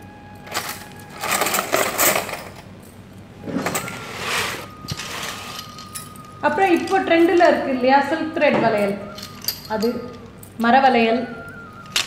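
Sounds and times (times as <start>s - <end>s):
bangles clinking and jingling: 0.3s - 3.9s, 4.7s - 7.9s, 8.7s - 12.0s.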